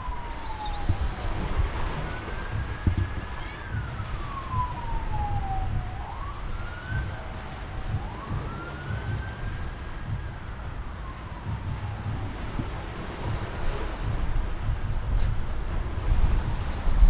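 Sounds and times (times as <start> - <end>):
distant siren wailing: 0.0 - 17.0
gusty wind rumble: 0.0 - 17.0.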